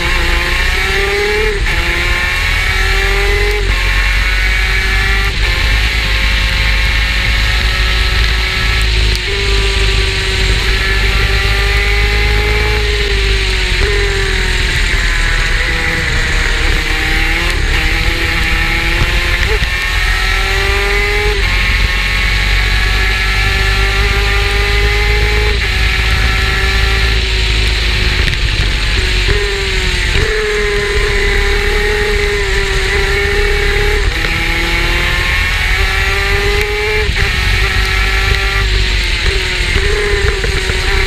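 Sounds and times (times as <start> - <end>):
steady rushing noise: 0.0 - 41.0
two-stroke kart engine revving: 0.0 - 41.0.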